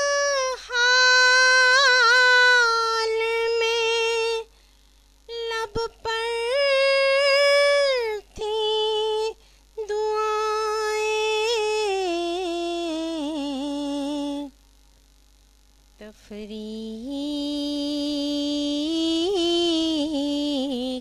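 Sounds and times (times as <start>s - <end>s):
woman singing unaccompanied: 0.0s - 4.6s, 5.3s - 14.6s, 16.0s - 21.0s.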